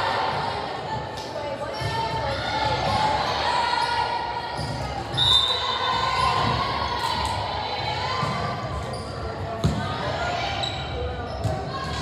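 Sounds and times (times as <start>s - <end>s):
crowd noise in a gym: 0.0s - 12.0s.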